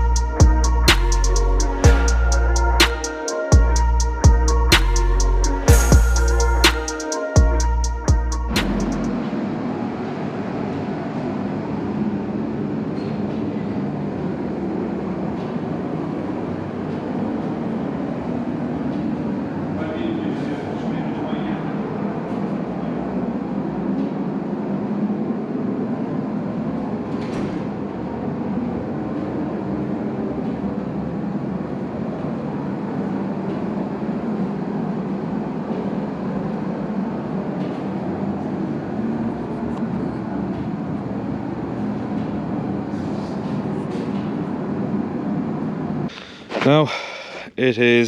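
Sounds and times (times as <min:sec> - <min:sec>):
machine droning: 0:00.0 - 0:47.5.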